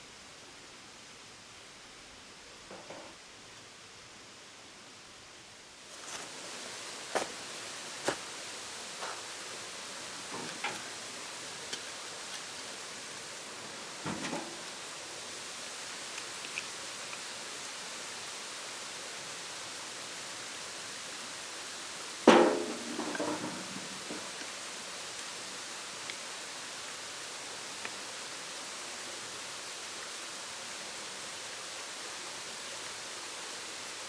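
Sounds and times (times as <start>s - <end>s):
outdoor ambient hiss: 0.0s - 34.0s.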